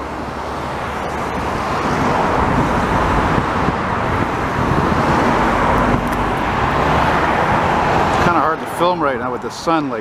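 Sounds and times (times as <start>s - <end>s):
jet airliner engine noise: 0.0s - 8.7s.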